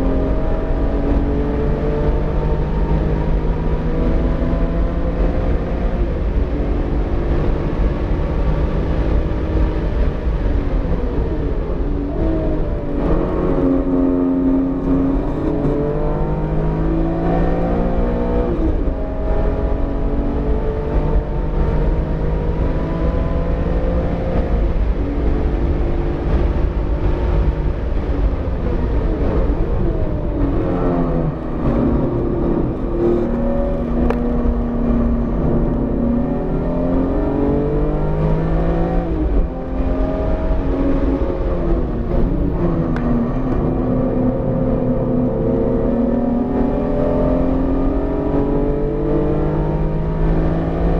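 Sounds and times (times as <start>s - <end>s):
car engine revving: 0.0s - 50.9s
road and wind rumble: 0.0s - 50.9s.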